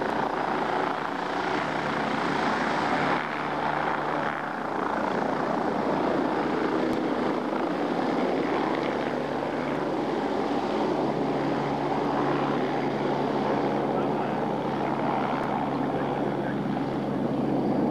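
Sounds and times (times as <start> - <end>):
helicopter engine and rotor roar: 0.0 - 17.9.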